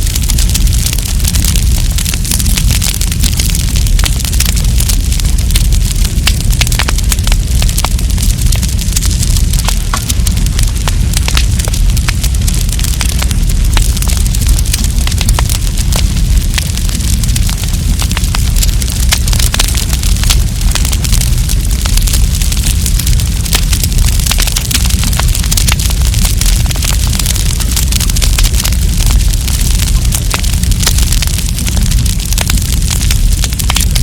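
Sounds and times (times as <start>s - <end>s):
wood campfire crackling: 0.0s - 34.0s.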